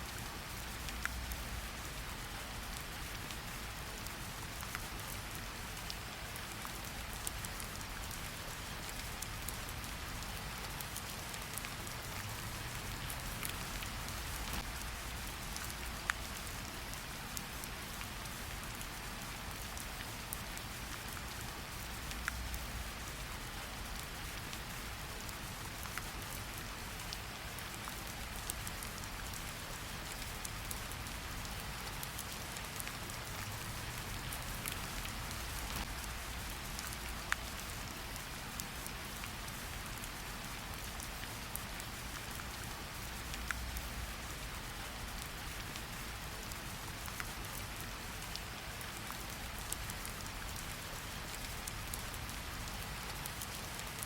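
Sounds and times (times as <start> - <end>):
rain hiss: 0.0 - 54.0.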